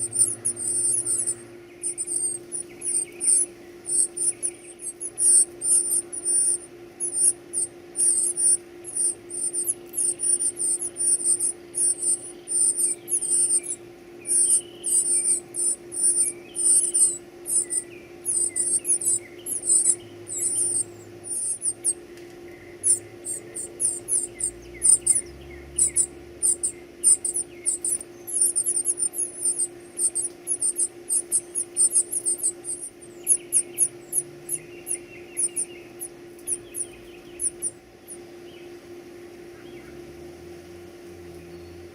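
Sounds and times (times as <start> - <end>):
baby birds cheeping: 0.0 - 38.8
steady low hum: 0.0 - 41.9.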